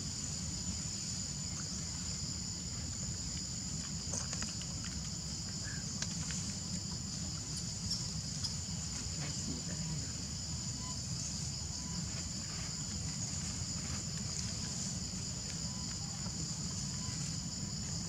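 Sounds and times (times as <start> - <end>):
shrill insect chorus: 0.0 - 18.0.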